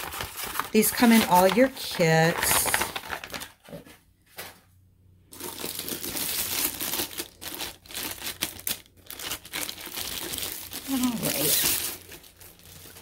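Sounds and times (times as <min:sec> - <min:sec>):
packaging crinkling and rustling: 0:00.0 - 0:04.6, 0:05.3 - 0:13.0.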